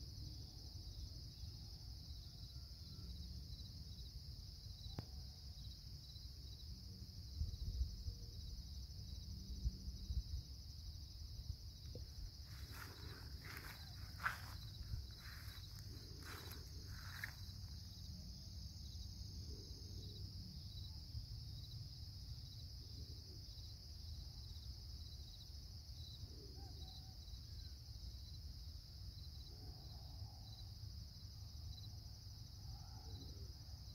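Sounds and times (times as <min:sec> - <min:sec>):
insects trilling: 0:00.0 - 0:33.9.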